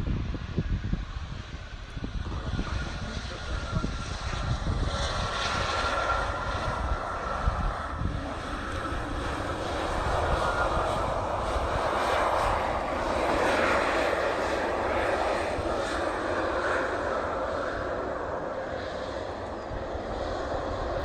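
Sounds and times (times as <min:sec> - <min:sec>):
aircraft engine noise: 0:00.0 - 0:21.0.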